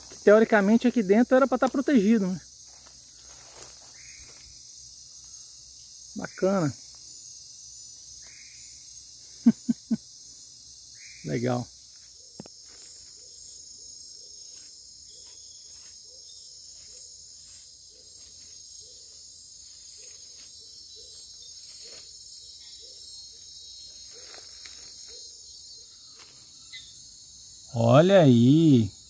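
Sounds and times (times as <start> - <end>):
insects chirping shrilly: 0.0 - 29.0.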